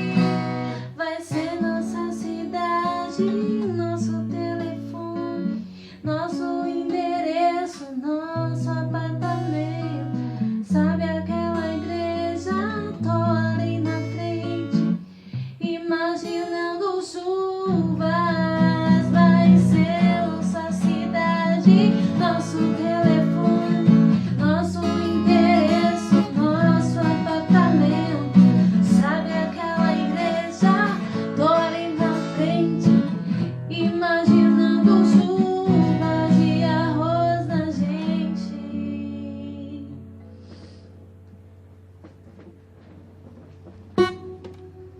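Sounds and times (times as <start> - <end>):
woman singing: 0.0 - 15.0, 15.6 - 40.1
acoustic guitar: 0.0 - 44.9.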